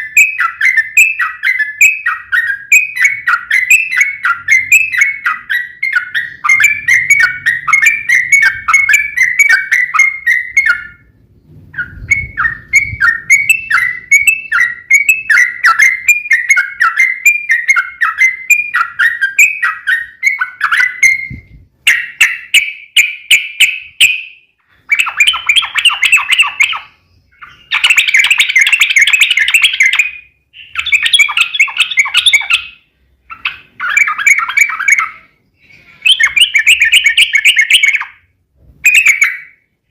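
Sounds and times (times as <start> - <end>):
bird singing bubbly song: 0.0 - 39.7.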